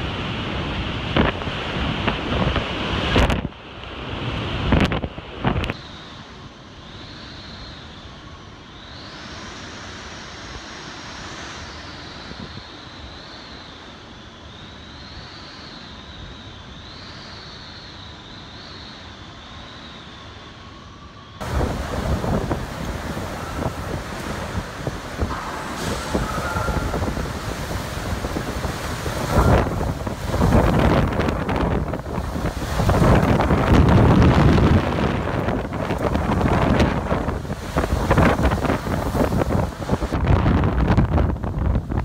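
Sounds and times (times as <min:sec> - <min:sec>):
hurricane wind on microphone: 0:00.0 - 0:15.4, 0:19.5 - 0:42.0
wind whistling through elevator doors: 0:00.0 - 0:42.0.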